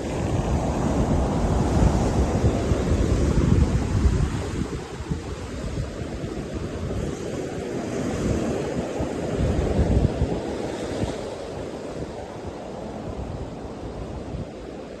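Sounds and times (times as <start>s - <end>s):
sea surf washing: 0.0s - 15.0s
wind gusting on microphone: 0.0s - 15.0s.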